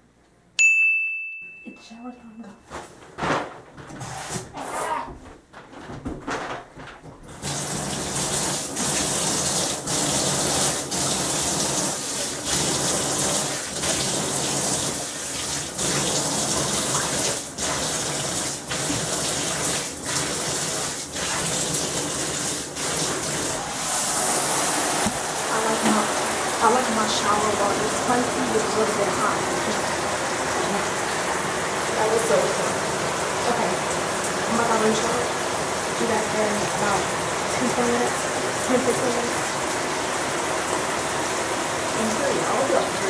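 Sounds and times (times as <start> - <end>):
water rushing into tub: 7.3 - 43.0.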